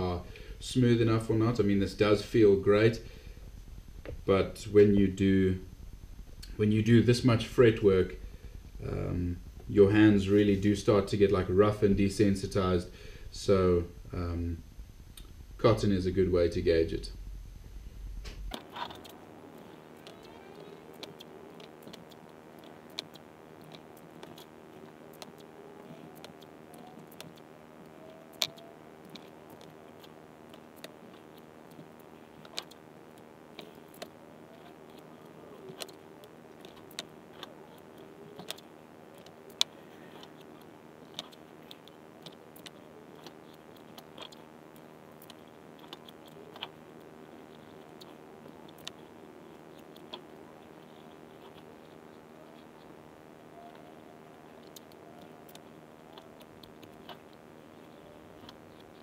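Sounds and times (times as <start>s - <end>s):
faint steady hum: 0.0s - 59.0s
masking tape clicks and crackles: 0.0s - 59.0s.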